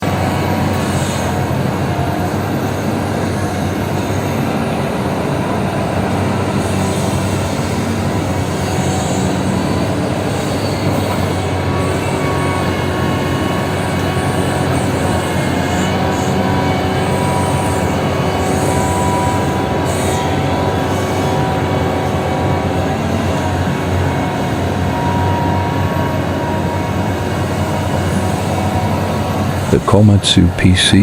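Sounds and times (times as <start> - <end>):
excavator diesel engine and hydraulics: 0.0 - 31.0
high metallic squeals: 2.2 - 29.8.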